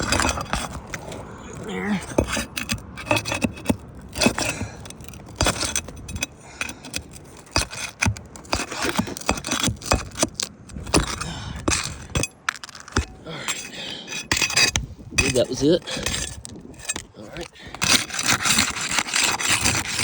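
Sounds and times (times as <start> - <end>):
metal tool scraping under shingles: 0.0 - 20.0
nails being pried loose: 0.0 - 20.0.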